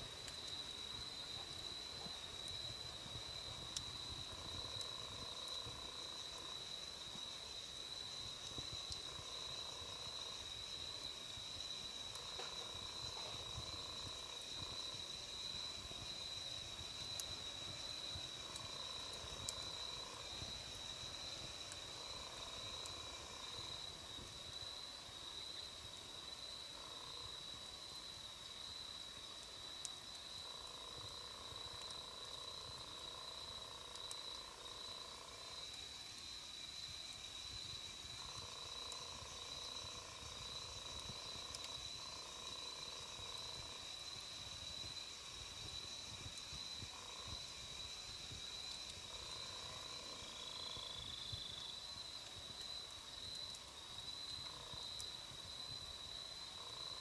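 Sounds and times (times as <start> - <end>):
campfire crackles: 0.0 - 57.0
insects trilling: 0.0 - 57.0.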